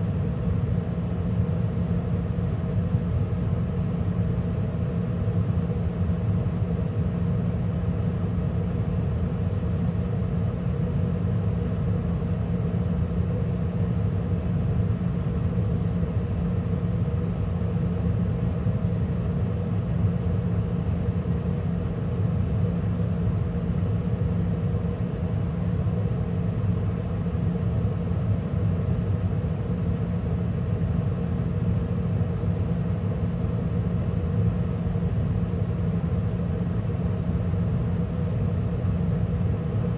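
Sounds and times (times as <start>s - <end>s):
gas furnace running: 0.0s - 39.9s
low steady hum: 0.0s - 39.9s.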